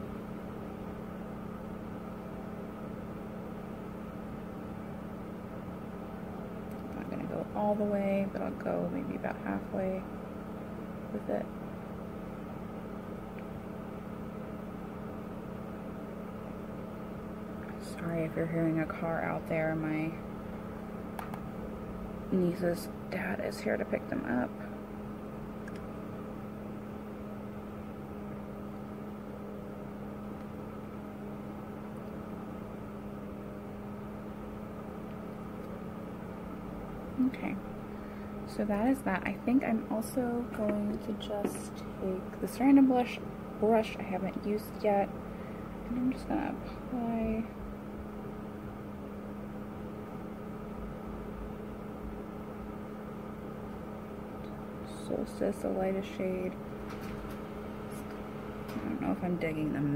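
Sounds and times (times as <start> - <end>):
faint rumble and hiss: 0.0 - 59.9
low machine hum: 0.0 - 59.9.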